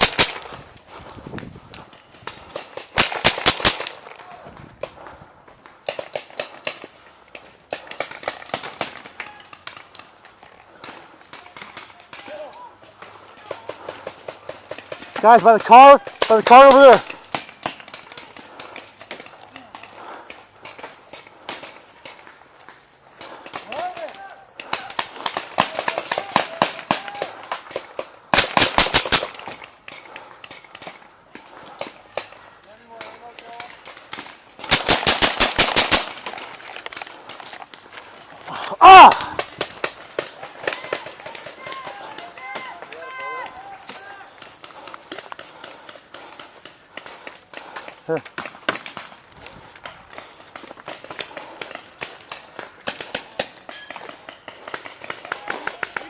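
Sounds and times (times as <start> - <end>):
paintball markers firing: 0.0 - 0.6, 1.9 - 5.0, 5.8 - 22.3, 23.2 - 38.2, 39.1 - 56.0.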